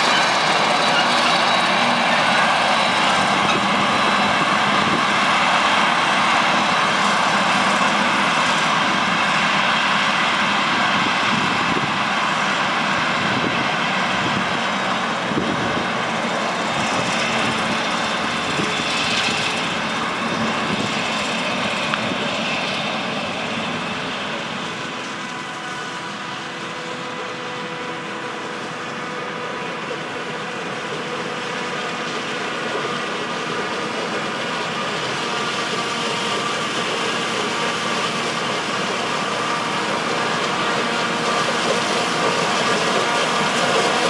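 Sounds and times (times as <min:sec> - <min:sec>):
tractor passing: 0:00.0 - 0:44.0.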